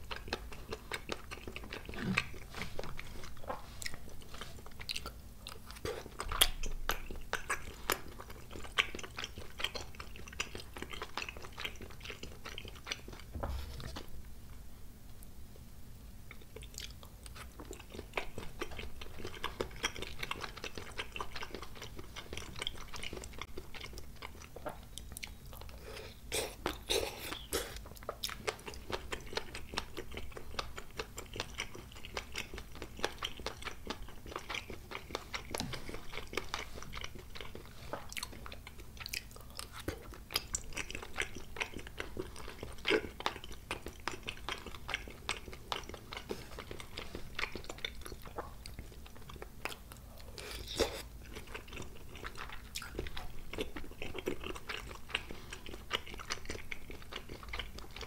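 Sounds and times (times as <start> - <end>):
person chewing: 0.0 - 14.1, 16.3 - 58.0.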